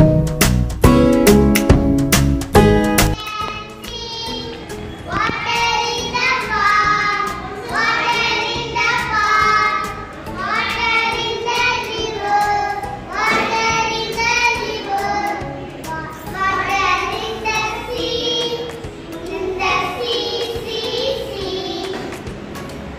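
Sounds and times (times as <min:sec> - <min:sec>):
young children singing: 0:03.2 - 0:22.6.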